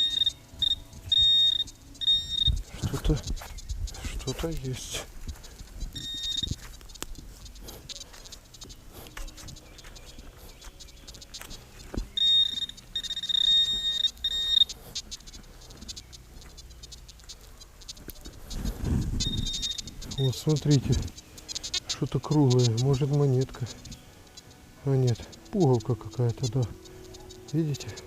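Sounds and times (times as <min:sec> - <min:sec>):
metal detector beeps: 0:00.0 - 0:28.0.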